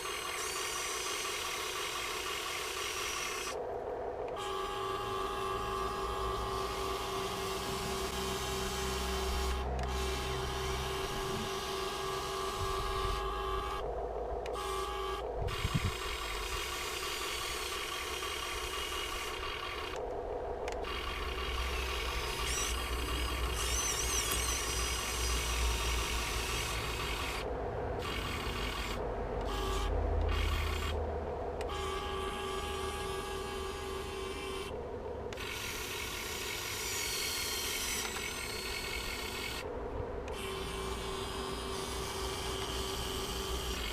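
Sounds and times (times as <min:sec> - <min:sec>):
toy excavator motors whining: 0:00.0 - 0:03.6, 0:04.2 - 0:31.0, 0:31.6 - 0:43.9.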